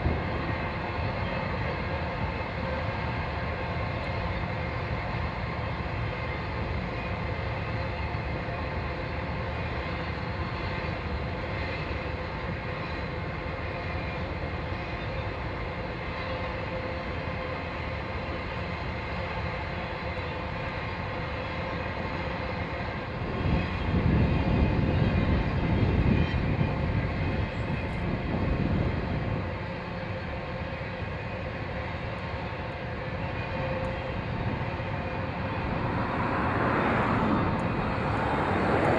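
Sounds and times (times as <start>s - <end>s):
train running: 0.0s - 38.9s.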